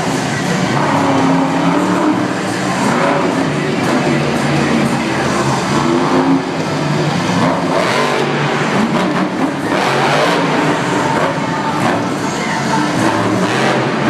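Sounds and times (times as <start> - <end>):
monster truck engines revving: 0.0 - 14.0.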